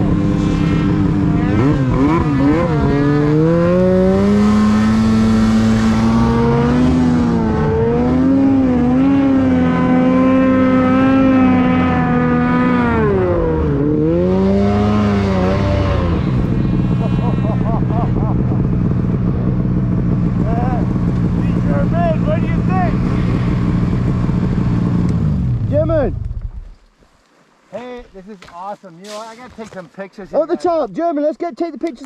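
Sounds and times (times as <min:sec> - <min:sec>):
snowmobile engine revving: 0:00.0 - 0:26.3.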